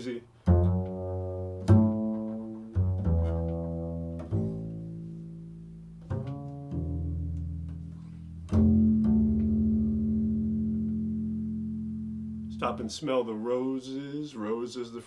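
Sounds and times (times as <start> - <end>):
low plucked string notes: 0.4 - 13.0.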